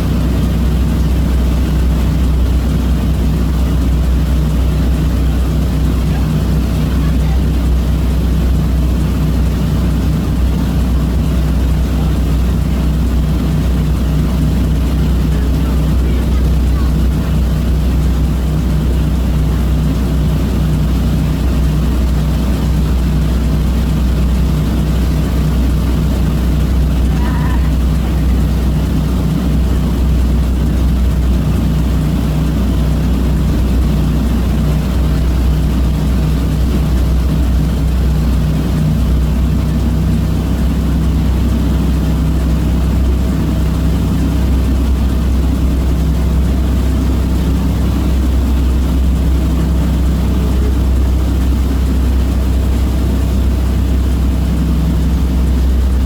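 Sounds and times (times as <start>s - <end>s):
boat engines droning: 0.0s - 56.0s.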